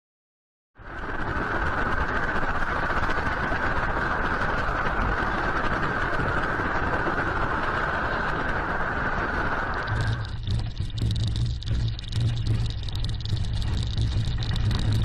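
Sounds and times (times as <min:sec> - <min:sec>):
low city rumble: 0:00.8 - 0:15.0.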